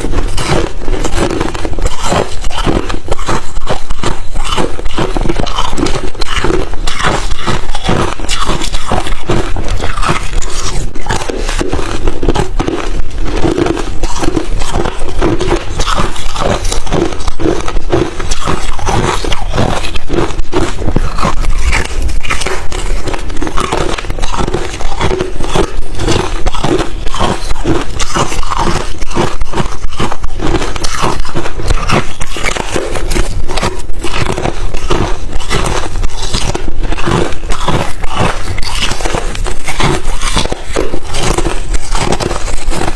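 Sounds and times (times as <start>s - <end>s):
ice chips crunching in chewing: 0.0s - 42.9s.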